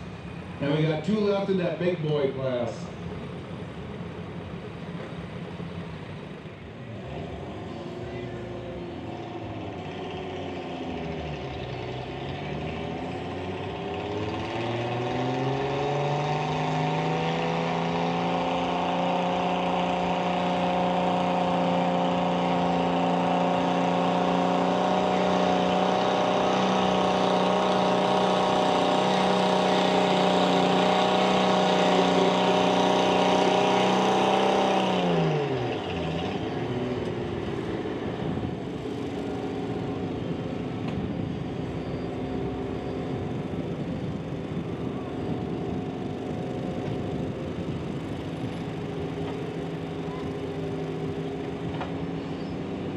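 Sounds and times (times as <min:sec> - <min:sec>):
tractor engine under load: 0:09.0 - 0:52.9.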